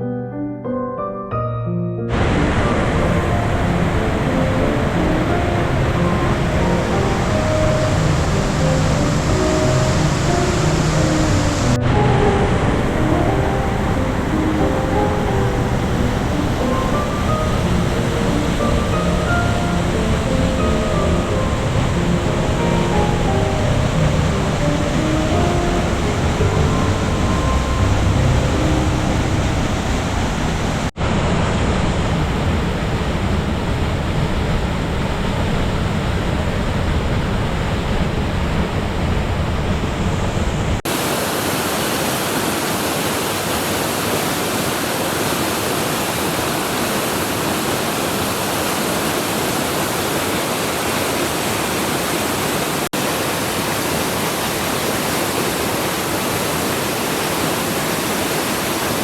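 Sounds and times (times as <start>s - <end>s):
waterfall rushing: 2.1s - 59.0s.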